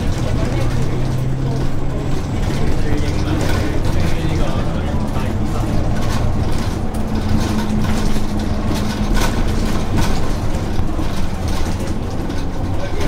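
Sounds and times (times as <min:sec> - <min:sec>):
bus body rattling: 0:00.0 - 0:13.0
bus engine drone: 0:00.0 - 0:13.0.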